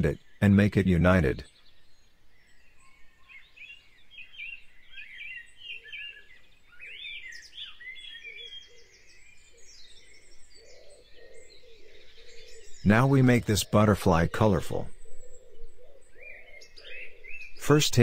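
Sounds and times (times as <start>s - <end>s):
birds chirping: 0.0s - 18.0s
faint low bird calls: 0.0s - 18.0s.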